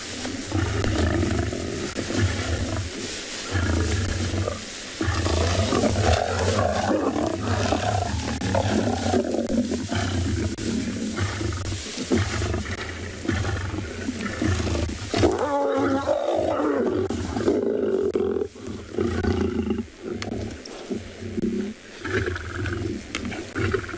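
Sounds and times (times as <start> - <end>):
lions growling: 0.0 - 23.9.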